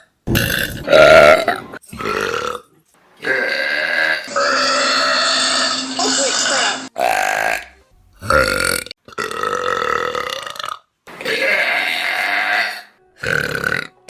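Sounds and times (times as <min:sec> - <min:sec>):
people burping: 0:00.3 - 0:02.6, 0:03.2 - 0:14.0.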